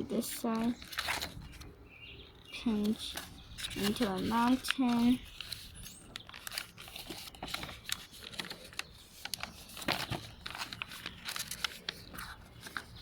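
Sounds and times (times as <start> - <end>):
paper crinkling: 0.0 - 1.8, 2.4 - 13.0.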